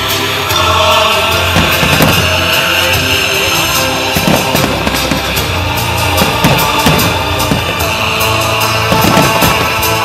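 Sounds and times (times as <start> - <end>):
loud music: 0.0 - 10.0
fireworks bangs: 1.3 - 10.0.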